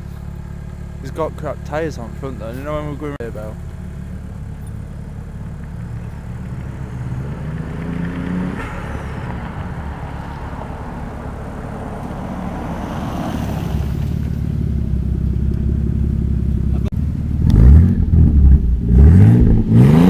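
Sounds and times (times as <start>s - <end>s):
car engine accelerating: 0.0s - 20.0s
road noise: 0.0s - 20.0s.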